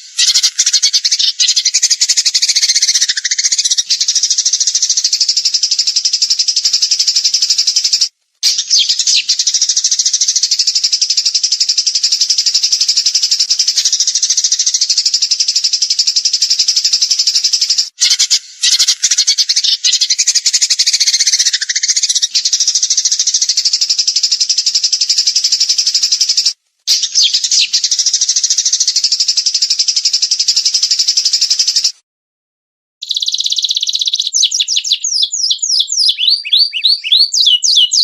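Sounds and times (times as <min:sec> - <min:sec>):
songbird trilling: 0:00.0 - 0:29.3, 0:33.0 - 0:38.0.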